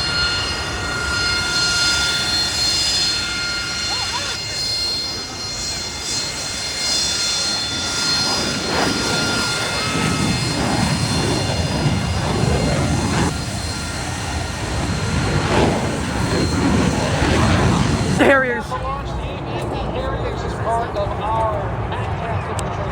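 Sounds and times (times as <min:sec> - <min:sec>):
jet engines rushing and whining: 0:00.0 - 0:22.9.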